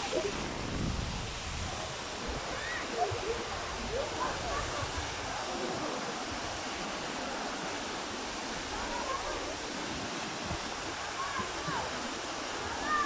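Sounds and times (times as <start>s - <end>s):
waterfall rushing: 0.0s - 13.0s
faint voices: 1.7s - 13.0s.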